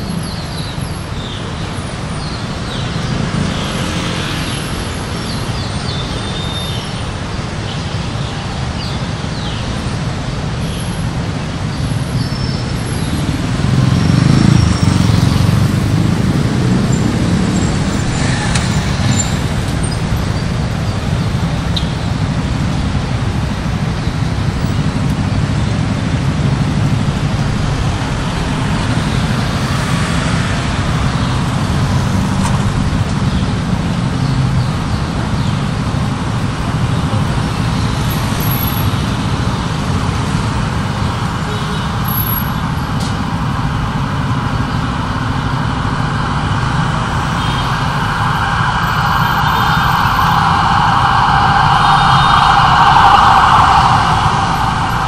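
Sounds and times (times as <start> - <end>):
city road traffic rumble: 0.0 - 55.0.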